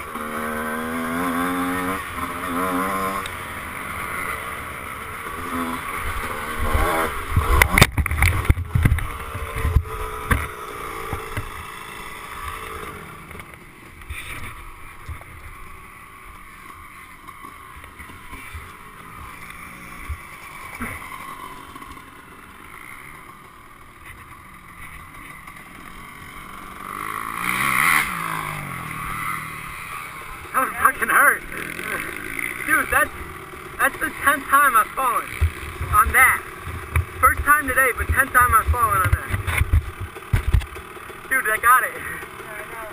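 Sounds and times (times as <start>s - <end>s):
motocross bike engine: 0.0s - 42.9s.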